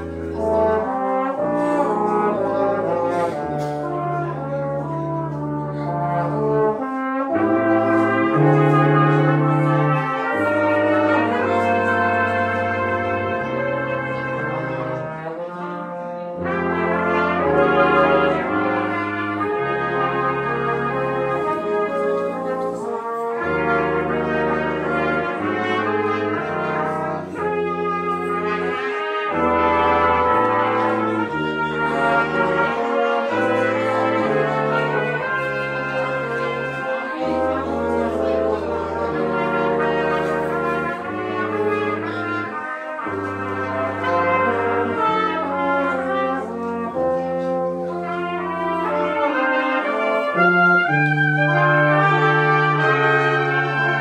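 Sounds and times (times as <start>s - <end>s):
brass ensemble playing: 0.0s - 54.0s
tuba bass line: 0.0s - 54.0s.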